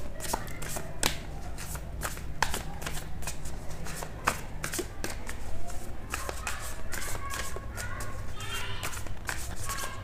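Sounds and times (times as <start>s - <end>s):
cards being shuffled: 0.0s - 7.8s, 8.8s - 10.0s.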